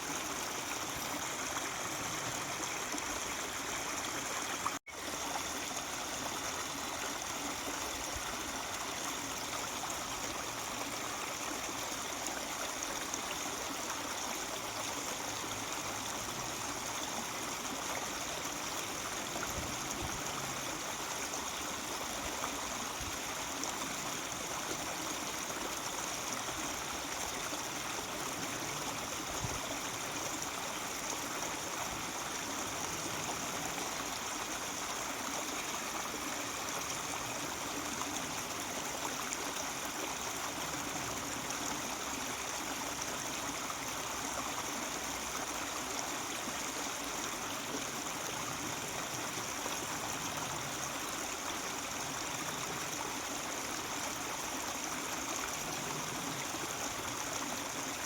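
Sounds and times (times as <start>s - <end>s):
stream babbling over rocks: 0.0s - 58.0s.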